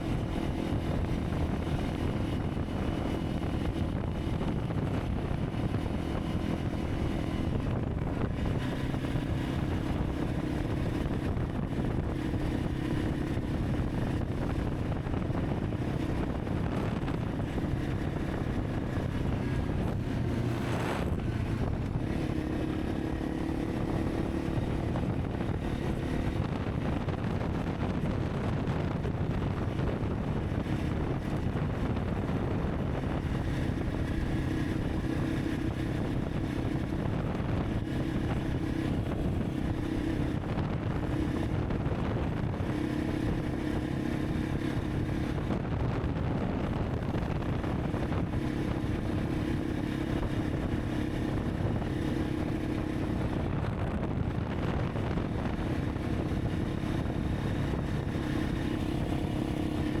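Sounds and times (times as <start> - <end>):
motorcycle engine running: 0.0 - 60.0
wind buffeting the microphone: 0.0 - 60.0.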